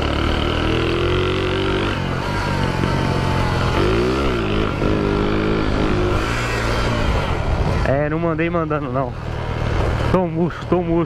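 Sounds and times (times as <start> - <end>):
motorcycle engine under throttle: 0.0 - 11.0.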